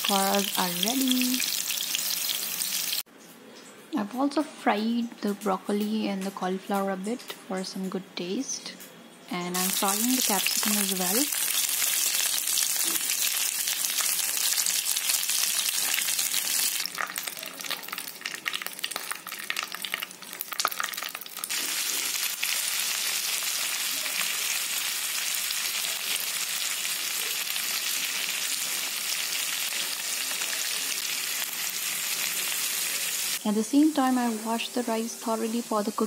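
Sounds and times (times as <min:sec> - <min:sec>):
vegetables sizzling in oil: 0:00.0 - 0:03.1, 0:09.4 - 0:36.0.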